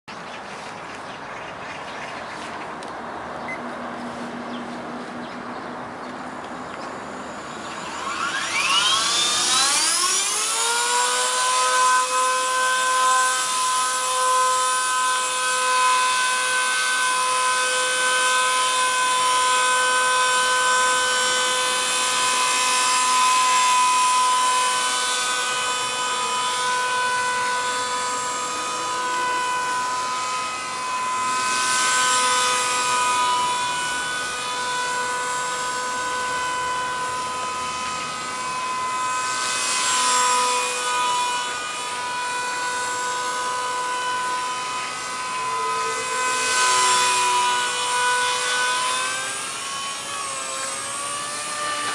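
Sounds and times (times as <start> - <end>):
rc helicopter motor whine: 0.1 - 51.9.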